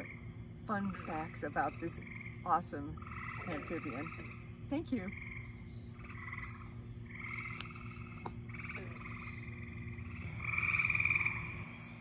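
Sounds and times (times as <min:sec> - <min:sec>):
tree frogs trilling in chorus: 0:00.0 - 0:12.0.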